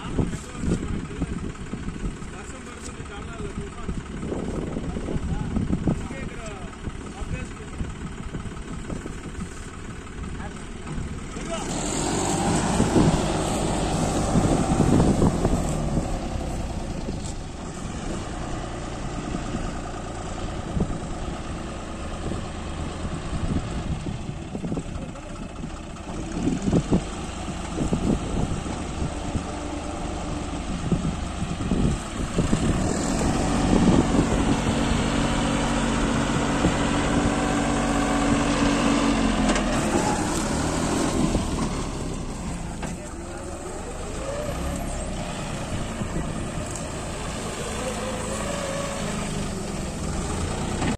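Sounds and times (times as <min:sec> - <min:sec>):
harvester machinery turning: 0:00.0 - 0:50.9
tractor diesel engine running: 0:00.0 - 0:50.9.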